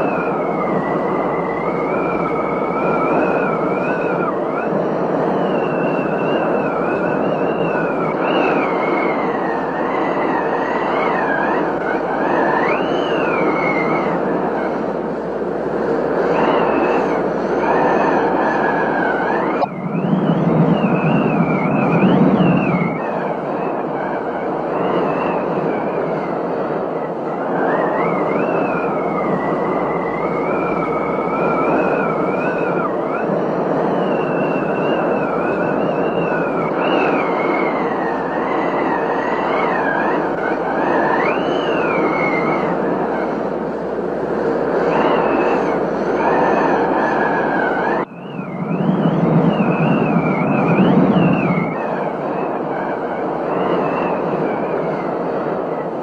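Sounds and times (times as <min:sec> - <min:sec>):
thin whistling tone: 0:00.0 - 0:14.9, 0:16.0 - 0:43.5, 0:44.5 - 0:56.0.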